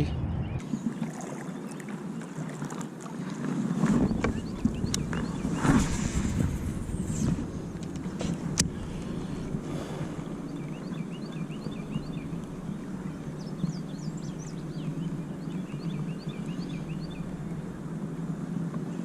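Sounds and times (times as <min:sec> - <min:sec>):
steady low rumble: 0:00.0 - 0:00.8, 0:04.1 - 0:19.0
birds chirping: 0:00.0 - 0:03.0, 0:03.8 - 0:19.0.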